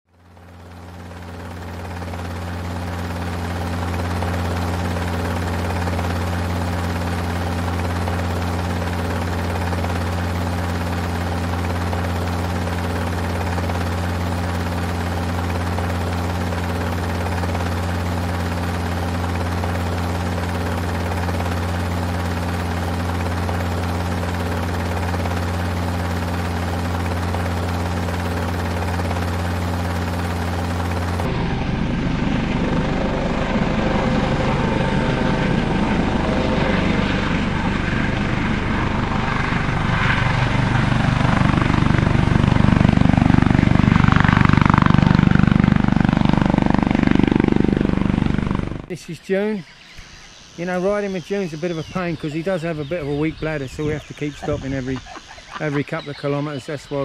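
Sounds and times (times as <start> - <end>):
helicopter rotor and engine: 0.1 - 57.0.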